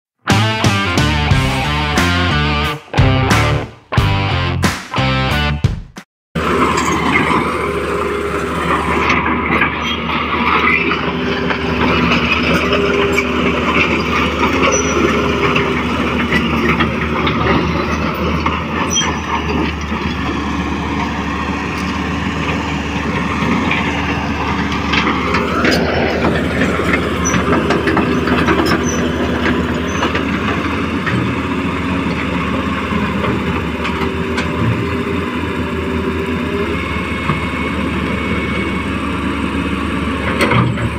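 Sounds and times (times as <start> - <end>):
toy excavator motors whining: 6.4 - 40.9.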